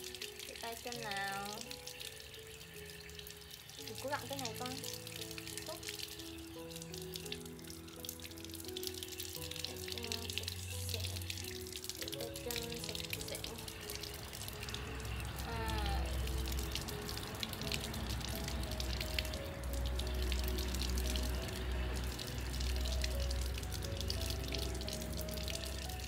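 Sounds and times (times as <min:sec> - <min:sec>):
background music: 0:00.0 - 0:26.0
water splashing from tap: 0:00.0 - 0:26.0.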